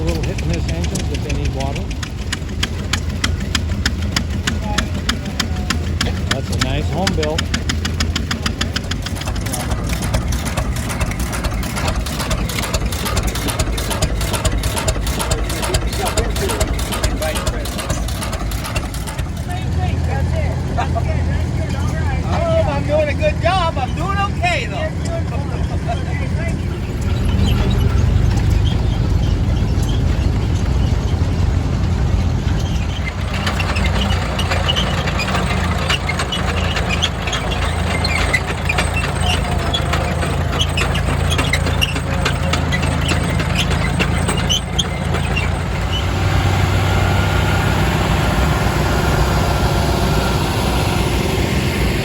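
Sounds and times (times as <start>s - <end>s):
tractor engine chugging: 0.0s - 52.0s.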